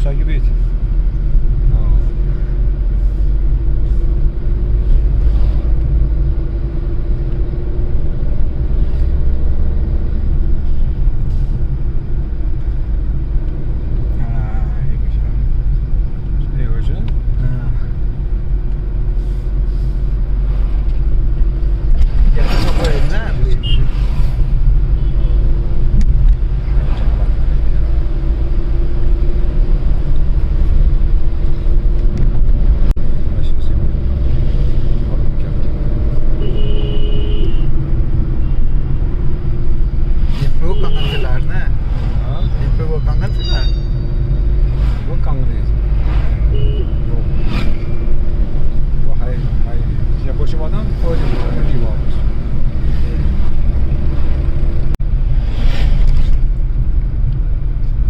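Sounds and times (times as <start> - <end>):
vehicle rumble: 0.0 - 58.0.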